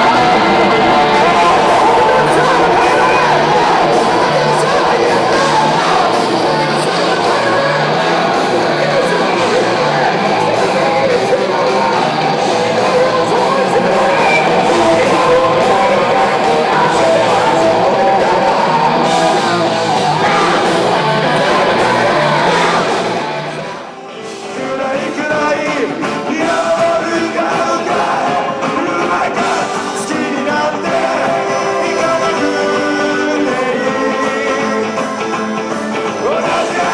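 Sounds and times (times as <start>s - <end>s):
live punk band with singing: 0.0s - 36.9s.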